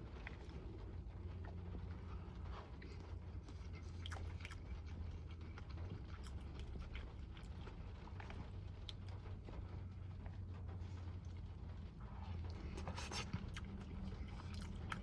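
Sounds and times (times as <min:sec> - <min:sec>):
steady low hum: 0:00.0 - 0:15.0
chewing: 0:00.1 - 0:15.0.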